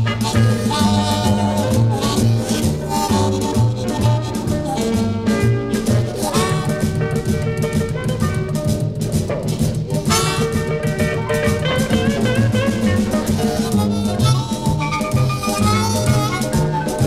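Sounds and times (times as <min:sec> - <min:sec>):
drums: 0:00.0 - 0:17.0
electric blues band playing: 0:00.0 - 0:17.0
electric guitar: 0:00.0 - 0:17.0.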